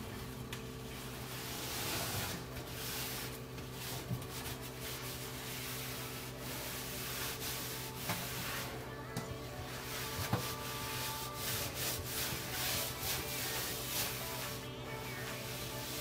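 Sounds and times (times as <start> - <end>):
scrubbing a stove: 0.9 - 8.9, 9.5 - 16.0.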